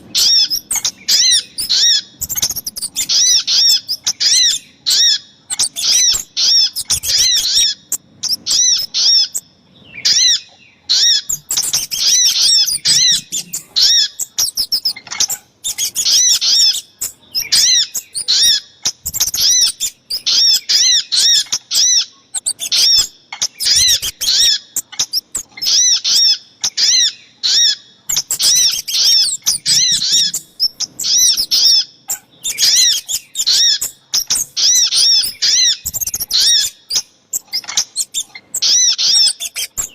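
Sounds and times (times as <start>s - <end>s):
high arched bird chirps: 0.0s - 39.9s.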